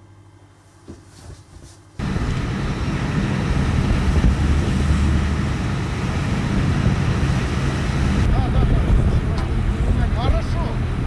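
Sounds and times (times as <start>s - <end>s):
low engine rumble: 2.0s - 11.0s
wind noise: 2.0s - 11.0s.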